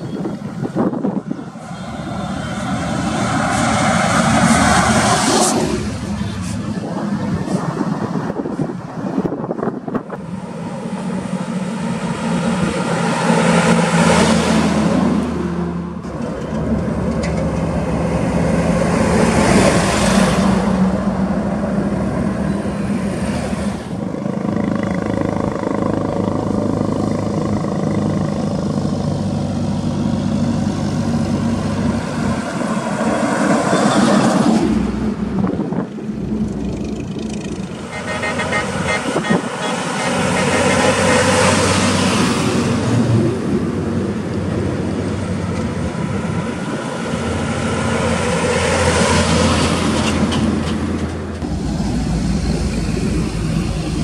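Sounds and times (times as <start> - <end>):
diesel trucks passing: 0.0 - 54.0.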